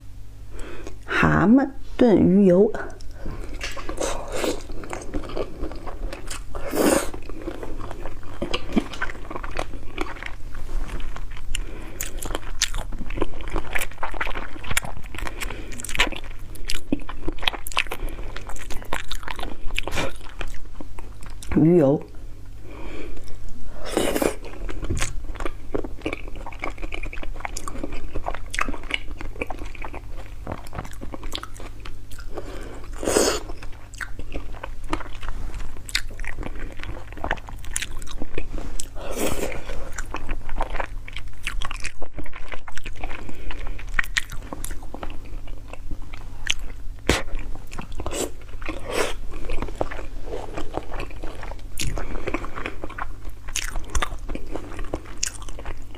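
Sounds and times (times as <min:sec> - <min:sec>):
steady low hum: 0:00.0 - 0:55.9
crunchy chewing and biting: 0:03.0 - 0:21.5, 0:23.2 - 0:55.9.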